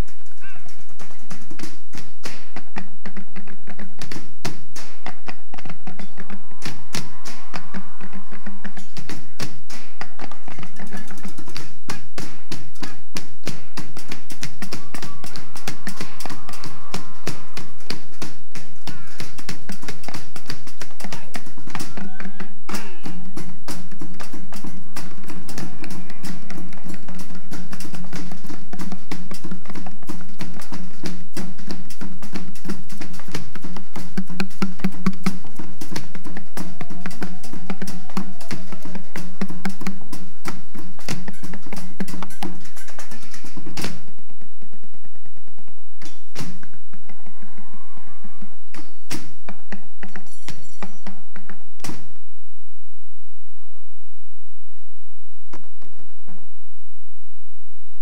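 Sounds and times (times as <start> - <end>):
junk percussion ensemble drumming: 0.0 - 47.1.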